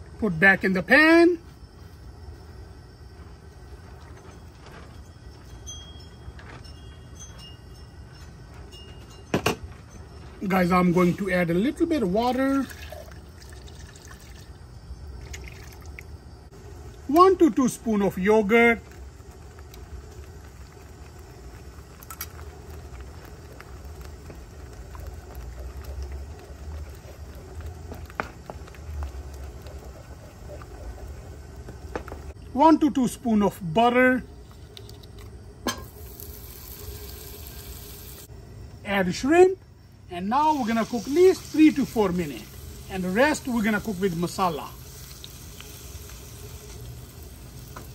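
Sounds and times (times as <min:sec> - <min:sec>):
low kitchen hum: 0:00.0 - 0:47.9.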